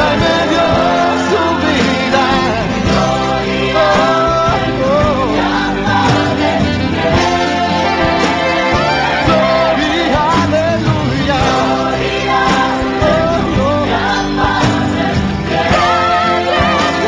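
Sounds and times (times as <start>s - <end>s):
worship song with instruments: 0.0s - 17.0s.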